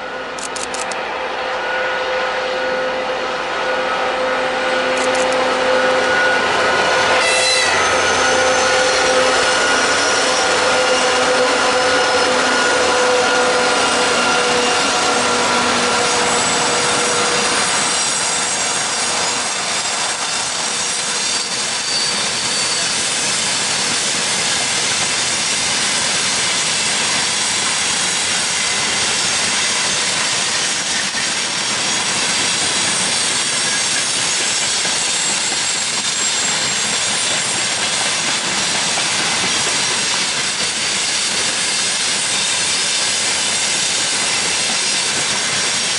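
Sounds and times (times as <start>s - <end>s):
freight train rolling on rails: 0.0s - 45.9s.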